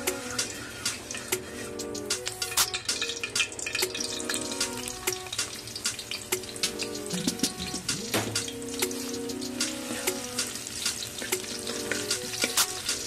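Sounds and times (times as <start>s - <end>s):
hot oil crackling in wok: 0.0s - 13.0s
onions frying: 0.0s - 13.0s.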